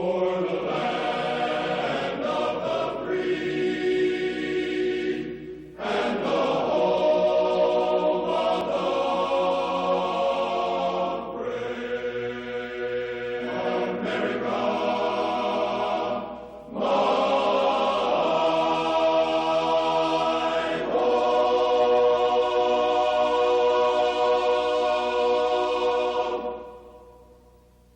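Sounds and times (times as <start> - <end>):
choir singing an anthem: 0.0 - 27.4.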